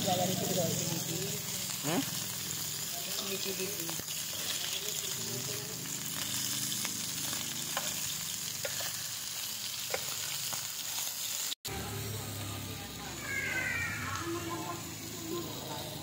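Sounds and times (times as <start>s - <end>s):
meat sizzling on grill pan: 0.0s - 16.0s.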